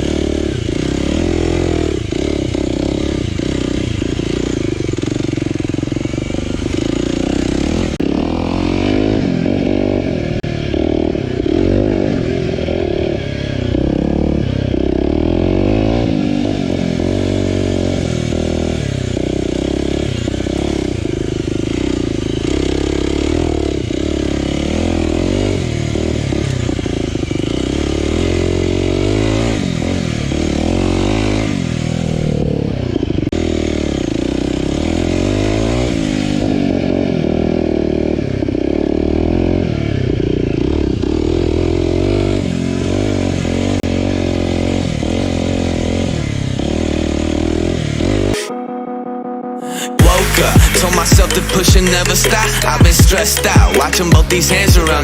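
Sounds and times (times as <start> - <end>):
motorcycle engine revving: 0.0 - 48.7, 50.0 - 55.0.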